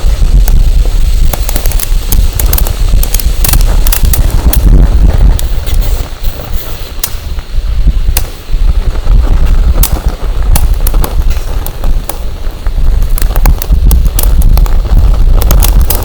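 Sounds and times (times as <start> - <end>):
firewood crackling and popping: 0.0 - 16.0
wind buffeting microphone: 0.0 - 16.0.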